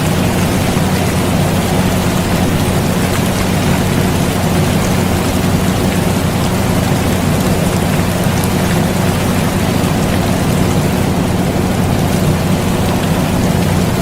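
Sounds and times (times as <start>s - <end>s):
air conditioner humming: 0.0s - 14.0s
rain hissing: 0.0s - 14.0s.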